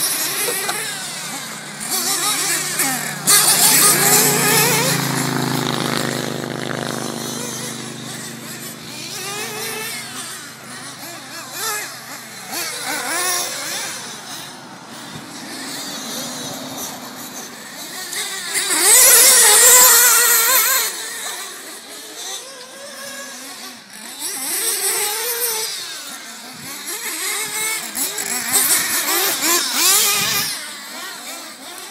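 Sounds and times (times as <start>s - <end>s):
rc car engines whining and revving: 0.0s - 31.9s.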